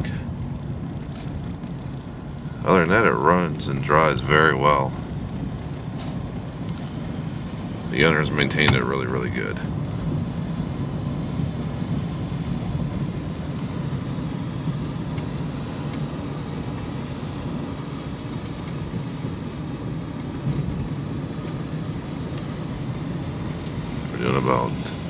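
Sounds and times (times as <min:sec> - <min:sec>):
car engine and road hum: 0:00.0 - 0:25.0.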